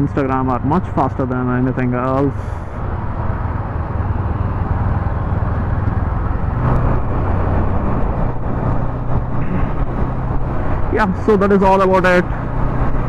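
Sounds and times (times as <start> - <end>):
road noise: 0.0 - 13.0
rushing wind: 0.0 - 13.0
motorcycle engine droning: 1.5 - 13.0.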